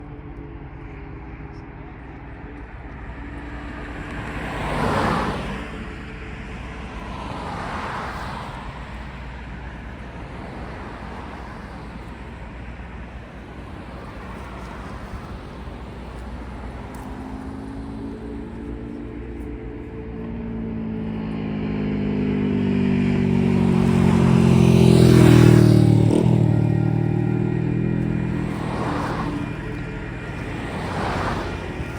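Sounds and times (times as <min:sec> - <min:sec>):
engine hum: 0:00.0 - 0:31.9
traffic background rumble: 0:00.0 - 0:31.9
vehicles passing: 0:00.0 - 0:31.9.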